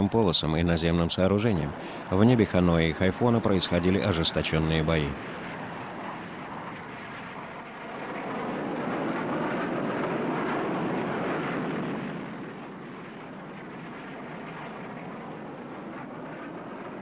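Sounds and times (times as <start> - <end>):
jet engine passing: 0.0 - 17.0.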